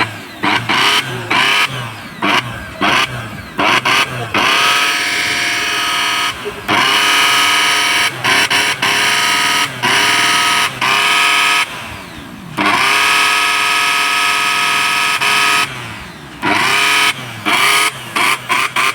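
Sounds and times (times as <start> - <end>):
mixer grinder motor whine: 0.0 - 18.9.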